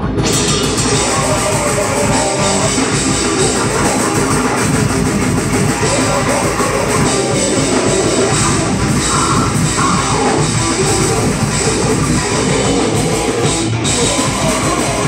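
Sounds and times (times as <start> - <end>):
distorted electric guitar: 0.0 - 15.0
fast drumming: 0.0 - 15.0.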